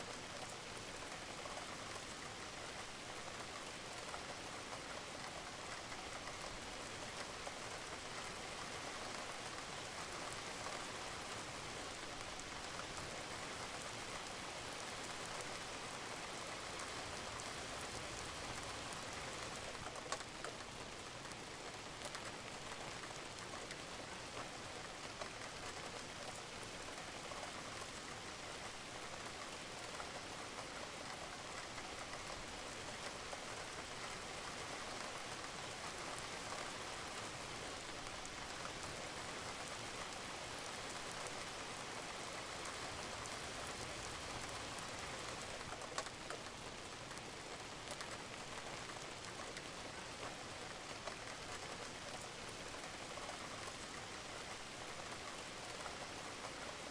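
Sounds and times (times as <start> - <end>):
rain on a roof: 0.0 - 56.9.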